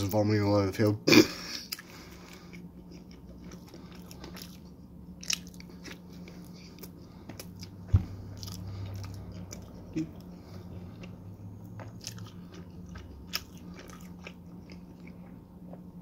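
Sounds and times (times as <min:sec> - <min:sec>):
low hum: 0:01.1 - 0:16.0
man chewing pizza: 0:01.4 - 0:16.0.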